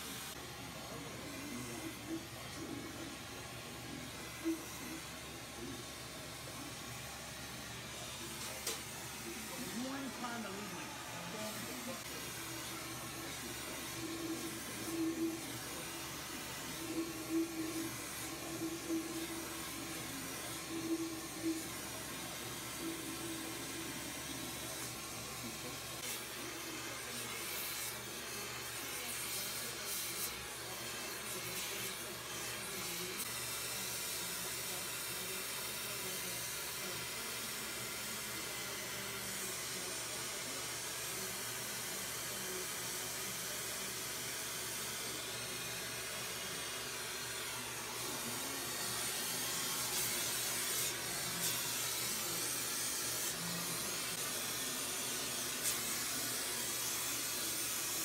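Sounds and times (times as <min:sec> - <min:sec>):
torch flame hissing: 0:00.0 - 0:36.9, 0:44.4 - 0:58.0.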